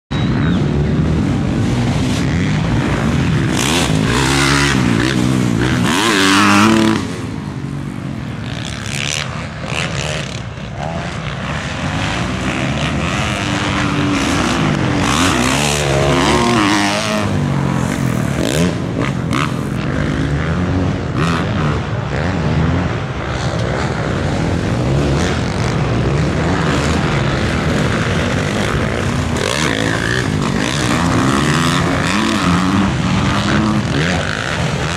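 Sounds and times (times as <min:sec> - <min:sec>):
dirt bike engines revving: 0:00.1 - 0:34.9.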